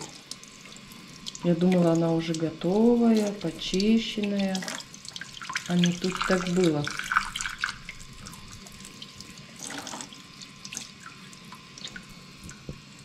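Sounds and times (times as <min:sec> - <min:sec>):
water splashing: 0:00.0 - 0:12.7.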